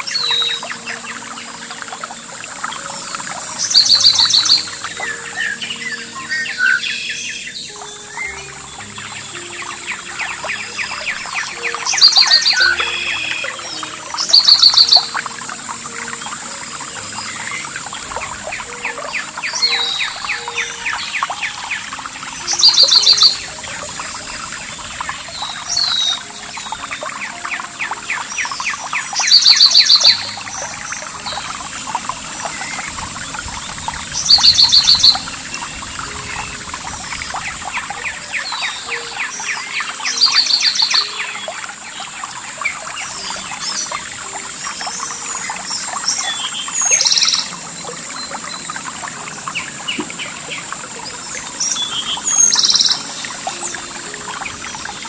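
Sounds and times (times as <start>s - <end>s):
birds chirping softly: 0.0s - 55.0s
songbird trilling: 0.0s - 55.0s
trickling water: 0.0s - 55.0s.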